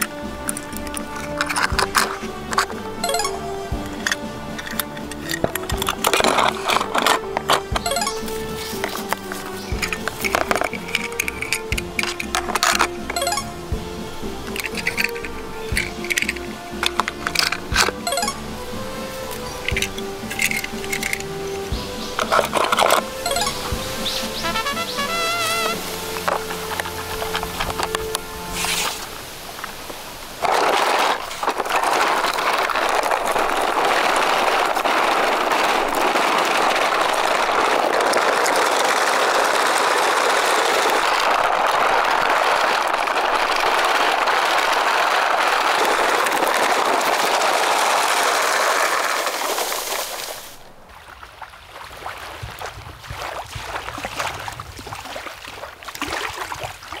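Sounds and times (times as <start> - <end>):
plastic wheels rolling over dirt: 0.0 - 50.9.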